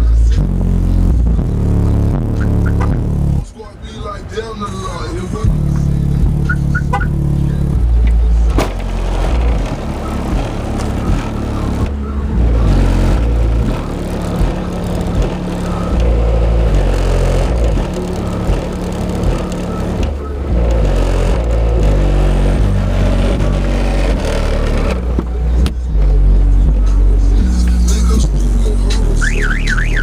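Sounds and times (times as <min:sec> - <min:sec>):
deep bass line from subwoofers: 0:00.0 - 0:03.5, 0:05.2 - 0:30.0.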